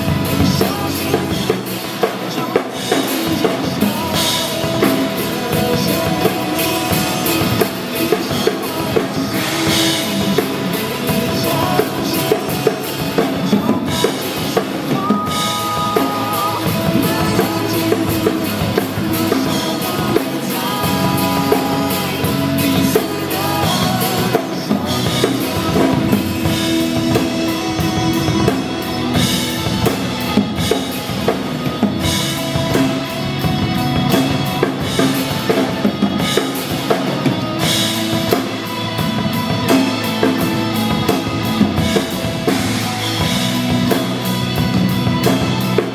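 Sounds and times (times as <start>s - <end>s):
drum kit playing: 0.0s - 45.9s
pop song backing track: 0.0s - 45.9s.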